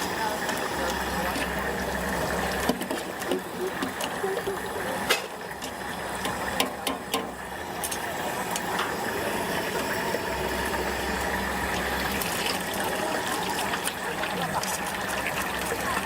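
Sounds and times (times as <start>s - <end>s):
tofu sizzling in hot oil: 0.0s - 16.0s.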